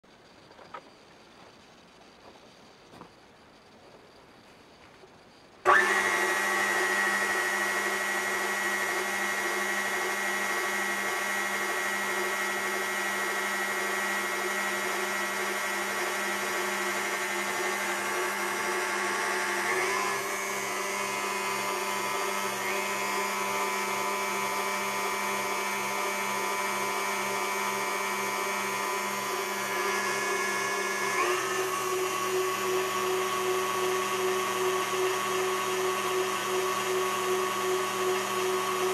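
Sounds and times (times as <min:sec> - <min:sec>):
stand mixer motor whining: 0:05.6 - 0:38.9.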